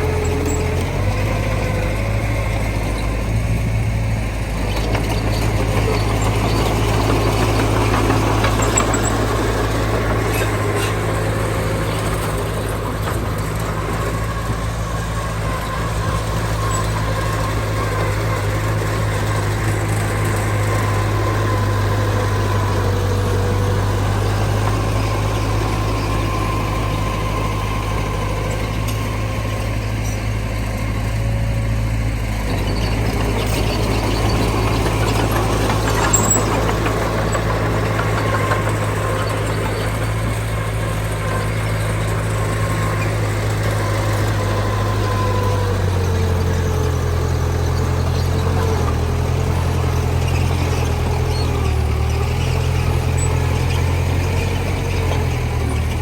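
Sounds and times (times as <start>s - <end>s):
diesel engine idling low: 0.0s - 56.0s.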